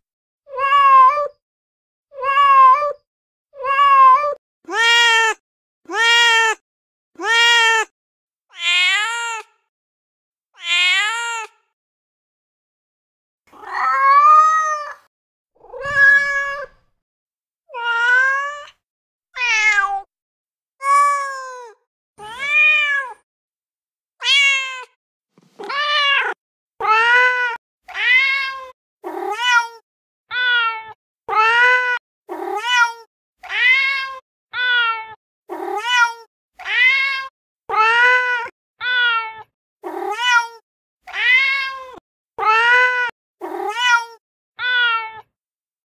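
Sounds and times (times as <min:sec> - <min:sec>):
recorded cat meows: 0:00.5 - 0:01.4, 0:02.1 - 0:06.6, 0:07.2 - 0:07.9, 0:08.5 - 0:09.7, 0:10.6 - 0:11.8, 0:13.5 - 0:17.0, 0:17.7 - 0:18.8, 0:19.4 - 0:20.1, 0:20.8 - 0:23.2, 0:24.2 - 0:25.0, 0:25.6 - 0:45.4.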